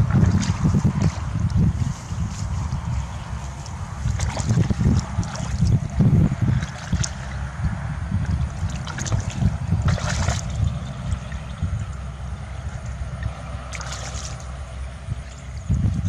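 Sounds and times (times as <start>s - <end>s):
low rumble: 0.0s - 16.0s
water sloshing and splashing: 0.0s - 16.0s.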